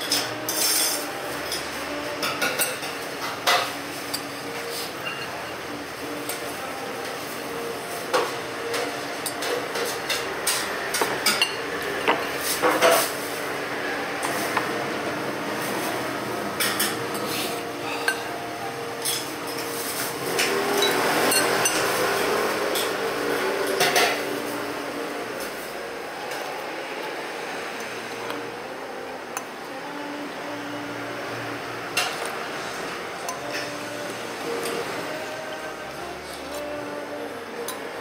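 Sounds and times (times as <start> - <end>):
steady background hum: 0.0 - 38.0.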